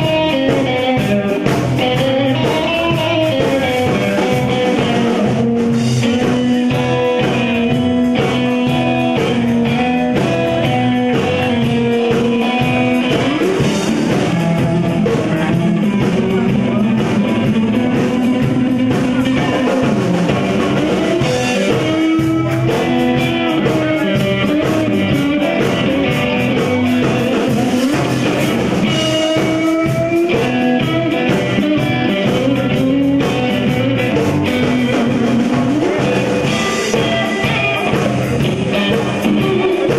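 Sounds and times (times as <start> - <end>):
drum kit: 0.0 - 39.9
electric bass: 0.0 - 39.9
electric guitar melodic lines: 0.0 - 39.9.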